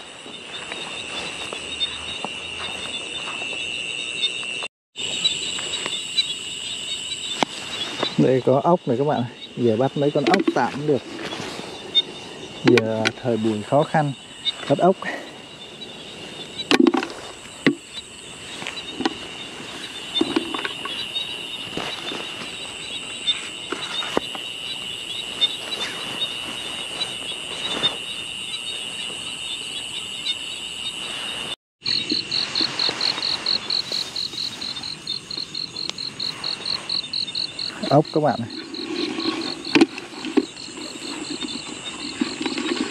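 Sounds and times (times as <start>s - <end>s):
crickets trilling: 0.0s - 42.9s
fast pulsed insect chirping: 0.0s - 42.9s.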